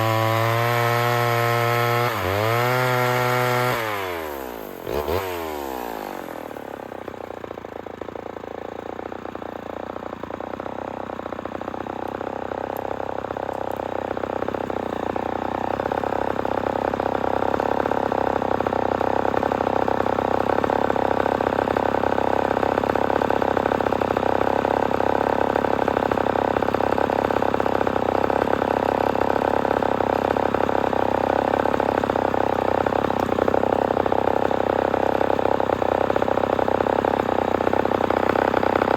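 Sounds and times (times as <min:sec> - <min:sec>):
chainsaw idling: 0:00.0 - 0:38.9.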